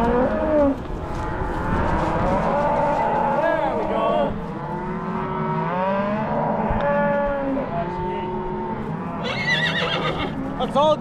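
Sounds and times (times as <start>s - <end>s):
cattle mooing: 0.0s - 10.6s.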